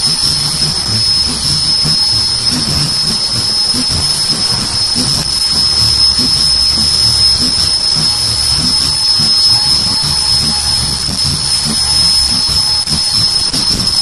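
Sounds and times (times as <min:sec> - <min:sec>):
machine high-pitched whine: 0:00.0 - 0:14.0
machine low rhythmic beat: 0:00.0 - 0:14.0.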